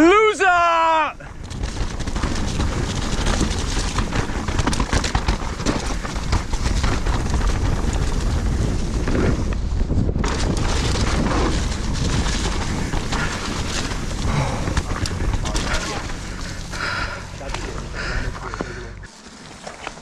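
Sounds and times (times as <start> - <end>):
wind buffeting microphone: 1.2 - 19.1
bike knocks and rattles: 1.2 - 20.0.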